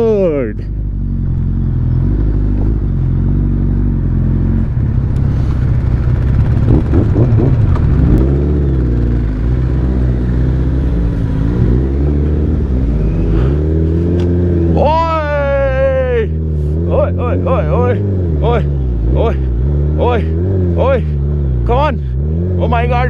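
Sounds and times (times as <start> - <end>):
motorcycle engines revving low: 0.0 - 23.0.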